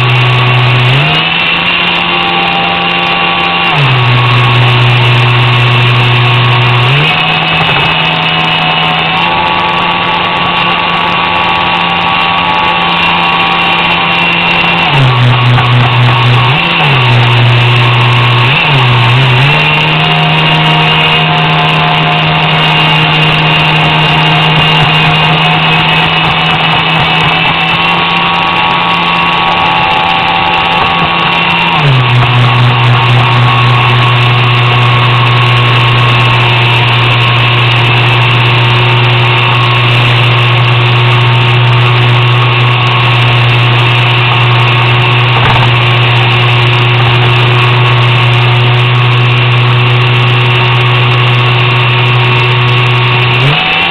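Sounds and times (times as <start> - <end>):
model airboat motor humming: 0.0 - 53.9.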